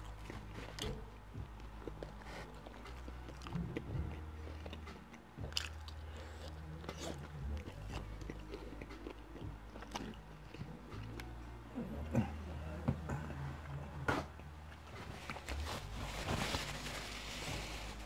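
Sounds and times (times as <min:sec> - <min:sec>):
chewing and crunching food: 0:00.0 - 0:18.0
low steady hum: 0:00.0 - 0:18.0.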